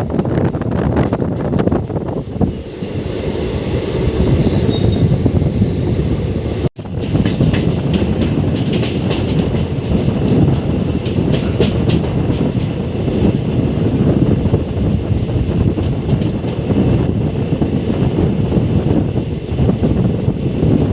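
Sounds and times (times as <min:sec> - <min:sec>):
train rumbling: 0:00.0 - 0:20.9
wheels clattering over rail joints: 0:00.1 - 0:03.0, 0:06.0 - 0:20.9.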